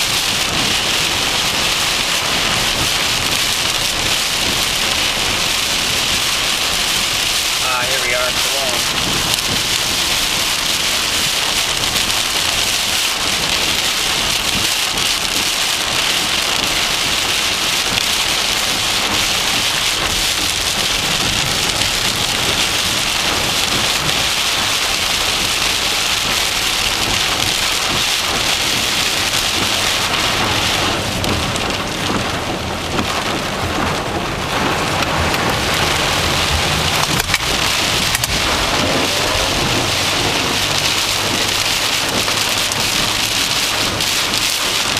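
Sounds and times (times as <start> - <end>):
heavy rain pelting a car: 0.0 - 44.9.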